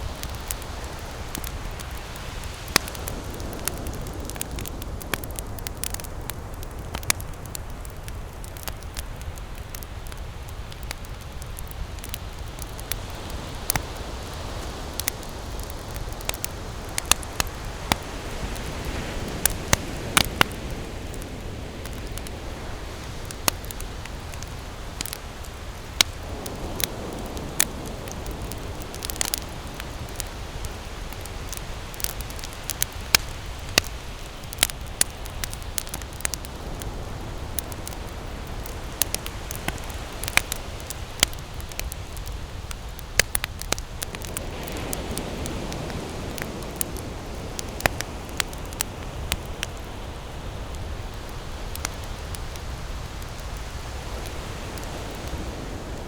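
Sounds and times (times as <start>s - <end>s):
campfire crackling and popping: 0.0s - 56.0s
hiss of flame: 0.0s - 56.0s.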